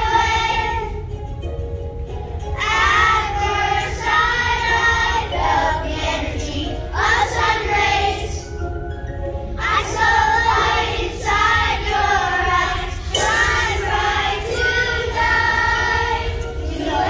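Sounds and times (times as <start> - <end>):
children singing: 0.0 - 1.1, 2.6 - 8.6, 9.6 - 17.0
musical accompaniment: 0.0 - 17.0.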